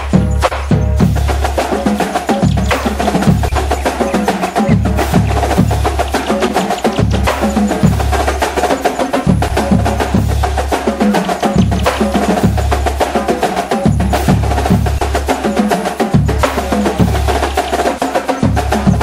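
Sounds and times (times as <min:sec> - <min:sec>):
beat music with deep bass: 0:00.0 - 0:19.0.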